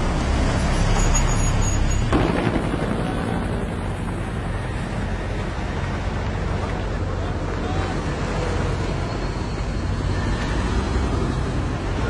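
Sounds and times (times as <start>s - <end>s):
idling vehicle engines rumble: 0.0s - 12.0s.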